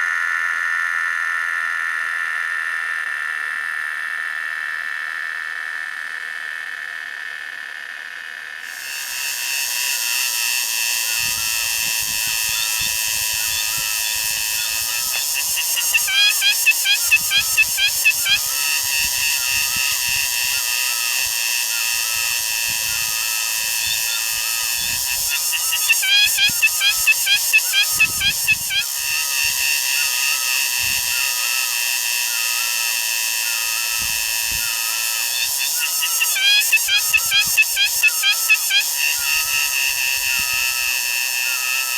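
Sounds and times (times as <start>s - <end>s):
insects buzzing: 0.0s - 41.9s
rhythmic pulsing insect call: 0.0s - 41.9s.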